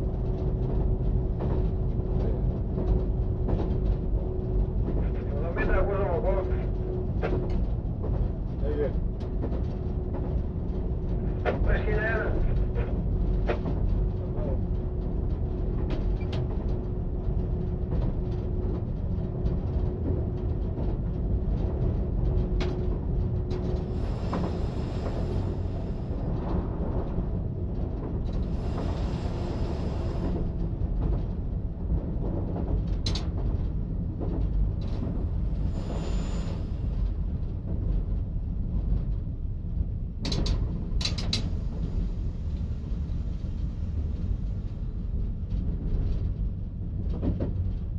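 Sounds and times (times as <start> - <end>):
train engine and wheels rumbling: 0.0 - 47.9.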